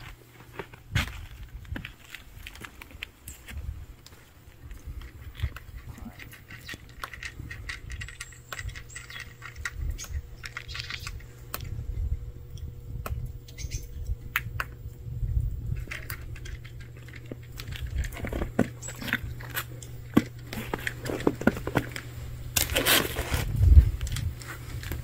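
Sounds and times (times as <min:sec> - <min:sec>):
cat crunching dry kibble: 0:00.0 - 0:13.5, 0:14.1 - 0:25.0
steady low rumble: 0:00.0 - 0:25.0.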